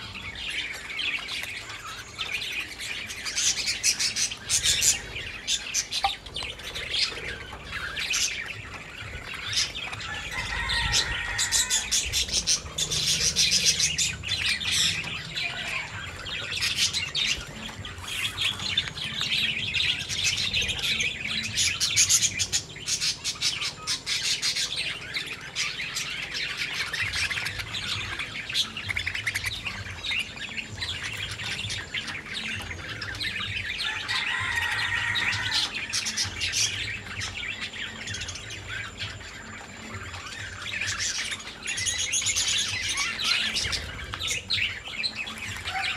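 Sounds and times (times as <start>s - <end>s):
birds chirping and twittering: 0.0s - 45.9s.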